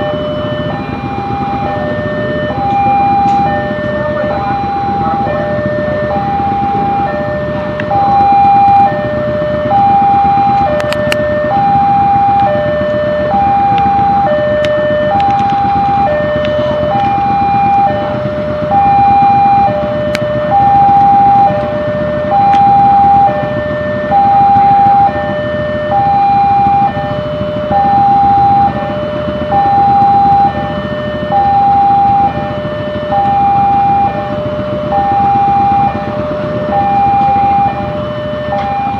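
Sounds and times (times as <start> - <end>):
level crossing alarm: 0.0 - 38.9
steady low rumble: 0.0 - 38.9.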